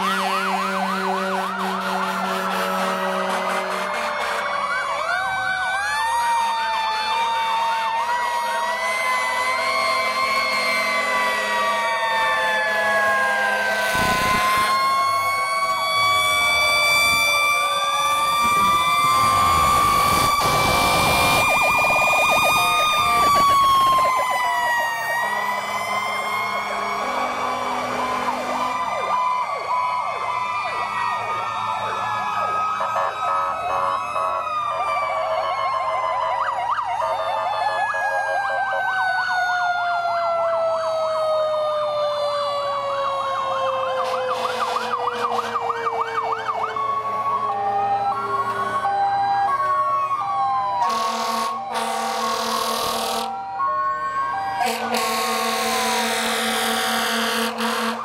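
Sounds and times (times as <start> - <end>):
diesel engines running: 0.0 - 36.4, 41.3 - 58.0
fire truck sirens: 0.0 - 58.0.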